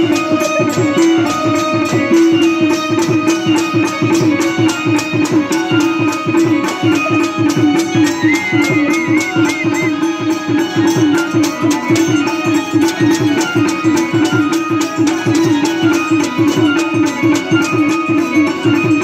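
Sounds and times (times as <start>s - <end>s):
fast steady drumbeat: 0.0s - 19.0s
held melody: 0.0s - 19.0s
warbling high melodic line: 0.0s - 19.0s.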